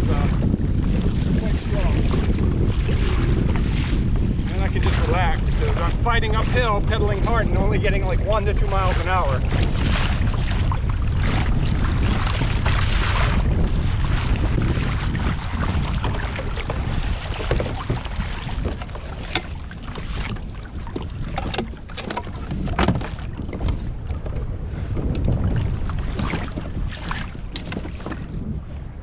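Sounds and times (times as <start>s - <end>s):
water slapping against kayak hull: 0.0s - 29.0s
wind rumbling on microphone: 0.0s - 29.0s.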